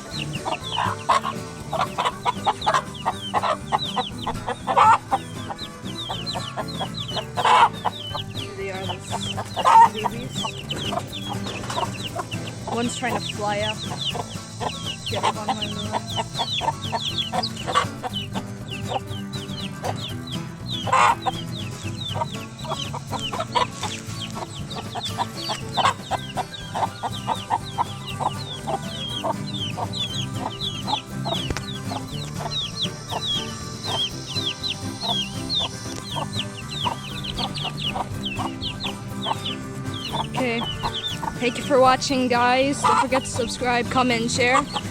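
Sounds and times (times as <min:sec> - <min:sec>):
chicks peeping: 0:00.0 - 0:44.9
hen clucking: 0:00.0 - 0:44.9.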